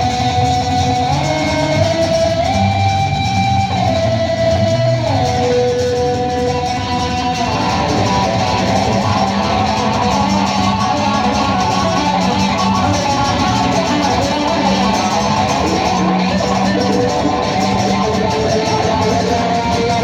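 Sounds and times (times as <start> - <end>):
guitars strumming and plucking: 0.0 - 20.0
live band playing: 0.0 - 20.0.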